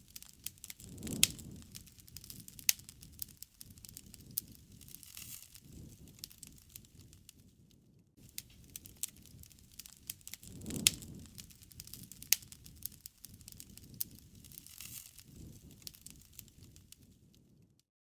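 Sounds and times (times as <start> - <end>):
wood fire crackling and popping: 0.0 - 17.8.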